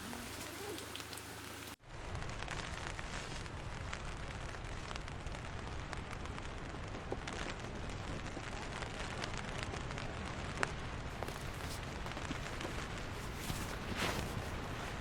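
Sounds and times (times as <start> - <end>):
heavy rain falling: 0.0 - 15.0
raindrop hits: 0.0 - 15.0.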